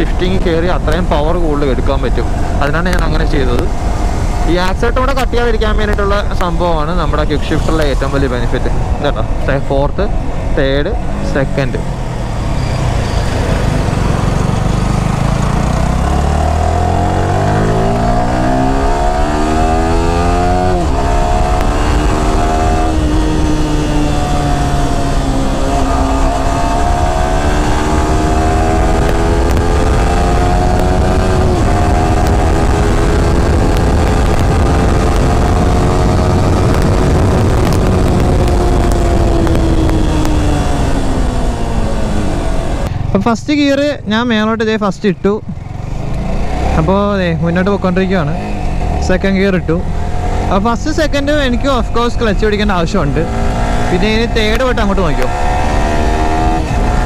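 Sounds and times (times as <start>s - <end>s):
wind noise: 0.0s - 43.2s, 49.7s - 57.0s
motorcycle engine accelerating: 0.0s - 57.0s.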